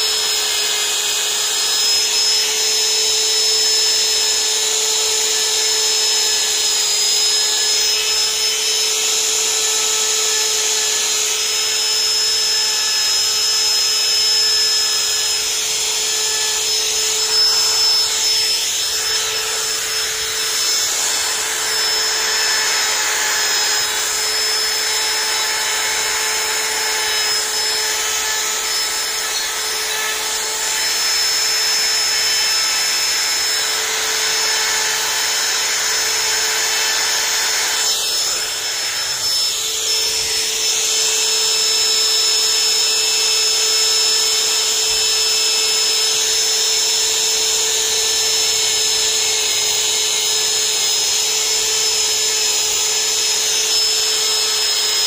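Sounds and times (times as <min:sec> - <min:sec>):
rotary carving tool whining: 0:00.0 - 0:55.0.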